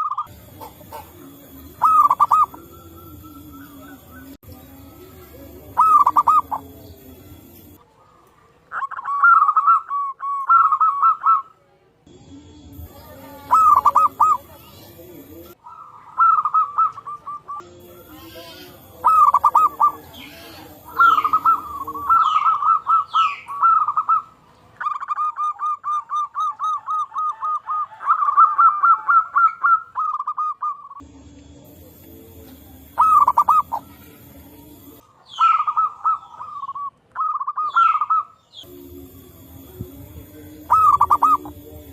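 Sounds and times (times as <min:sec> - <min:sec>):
doves cooing: 0:00.0 - 0:11.6, 0:12.7 - 0:41.9.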